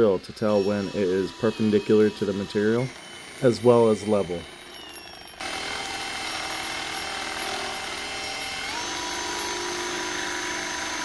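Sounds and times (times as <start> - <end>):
cordless drill drilling into metal: 0.3 - 11.0.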